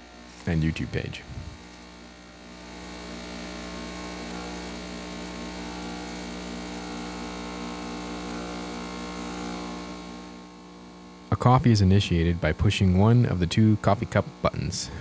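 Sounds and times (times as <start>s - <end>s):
espresso machine pump hum: 0.0s - 15.0s.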